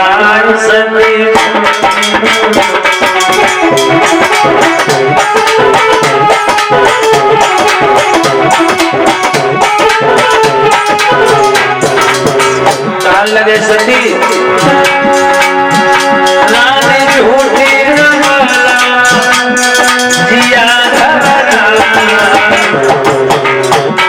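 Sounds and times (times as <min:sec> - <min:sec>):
sustained melody line: 0:01.0 - 0:24.0
hand drums beating: 0:01.1 - 0:24.0
shaker percussion: 0:01.3 - 0:24.0.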